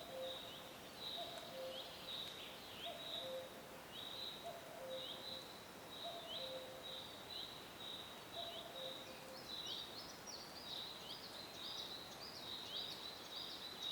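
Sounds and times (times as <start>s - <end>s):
faint hiss: 0.0s - 13.9s.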